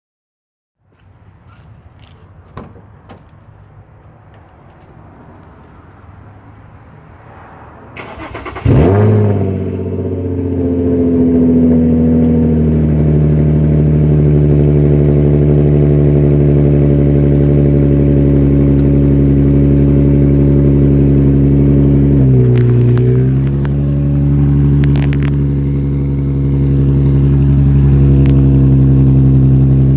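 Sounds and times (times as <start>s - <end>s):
car engine idling: 1.9s - 29.9s.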